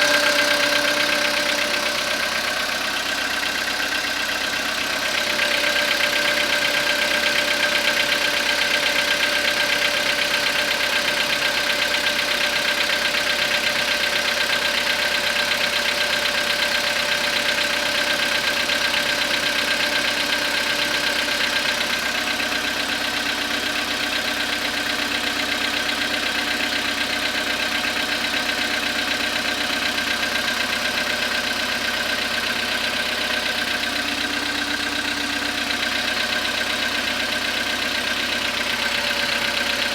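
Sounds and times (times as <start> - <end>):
cold car engine idling with knock: 0.0 - 39.9.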